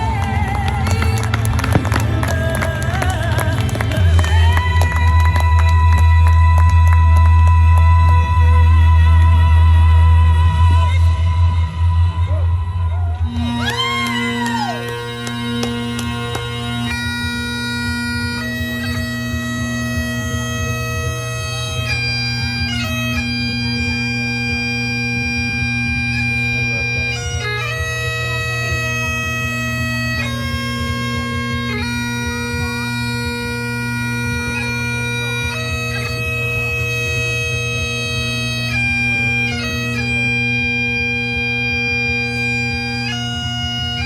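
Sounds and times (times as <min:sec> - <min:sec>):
bagpipes playing slow melody: 0:00.0 - 0:44.0.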